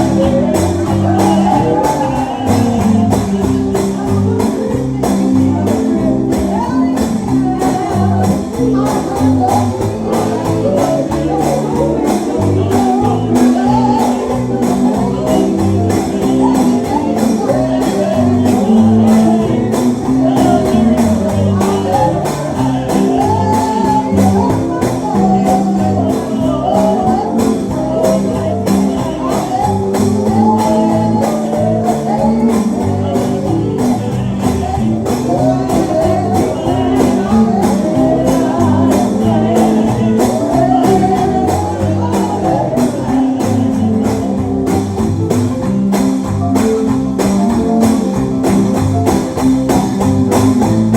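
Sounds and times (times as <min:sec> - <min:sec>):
voices singing gospel: 0:00.0 - 0:50.9.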